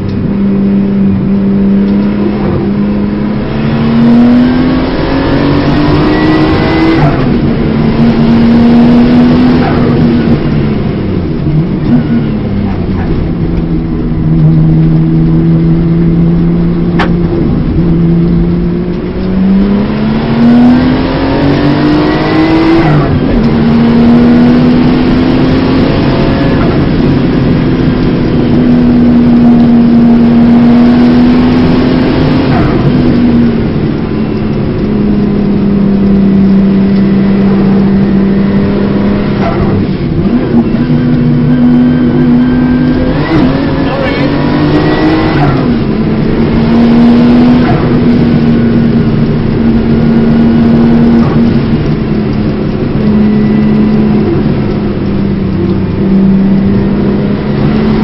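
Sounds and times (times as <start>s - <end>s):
car engine revving from inside cabin: 0.1s - 58.0s.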